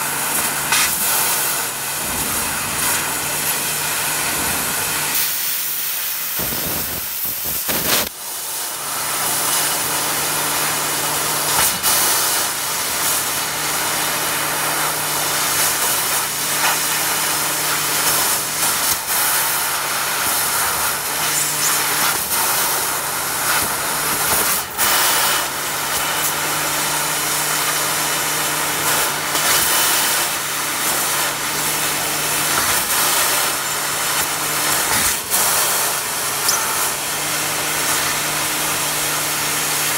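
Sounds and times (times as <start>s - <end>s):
laser cutter hissing: 0.0s - 39.9s.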